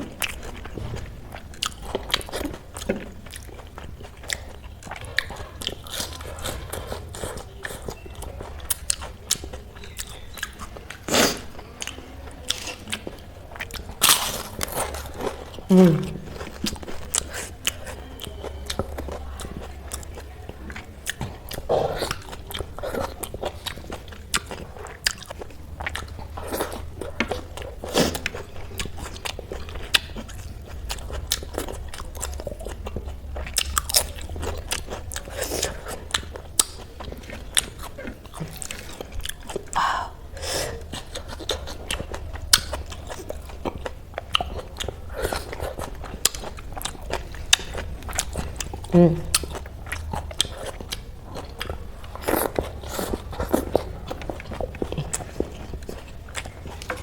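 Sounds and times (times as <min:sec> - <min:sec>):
person chewing crisp food: 0:00.0 - 0:57.0.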